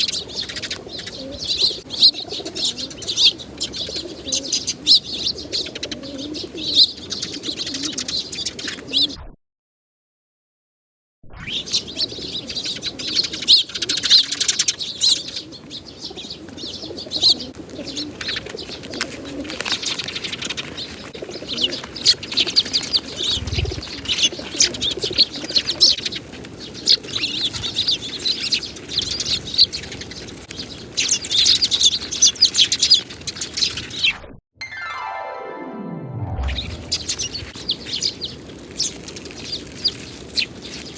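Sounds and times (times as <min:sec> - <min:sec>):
sparrows chirping: 0:00.0 - 0:09.1, 0:11.6 - 0:19.0, 0:19.6 - 0:34.1, 0:36.9 - 0:40.9.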